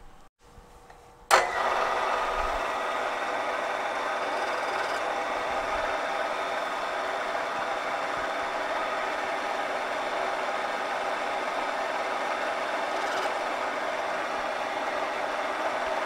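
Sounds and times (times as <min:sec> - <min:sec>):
milling machine motor running: 0:01.3 - 0:16.0.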